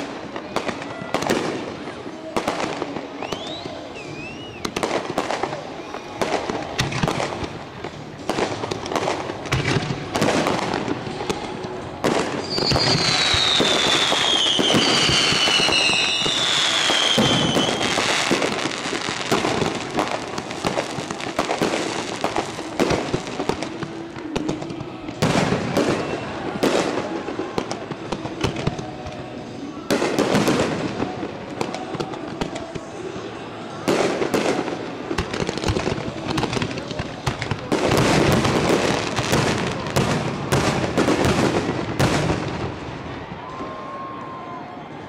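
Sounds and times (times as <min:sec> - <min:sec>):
fireworks falling whistles: 0:00.0 - 0:42.5
fireworks bangs: 0:00.0 - 0:44.3.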